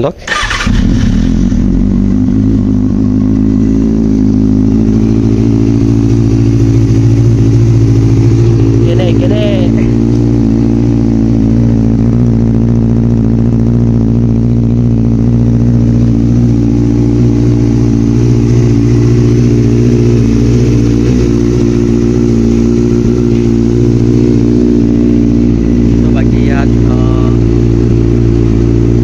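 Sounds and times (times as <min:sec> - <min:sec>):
motorcycle engine idling: 0:00.3 - 0:29.0.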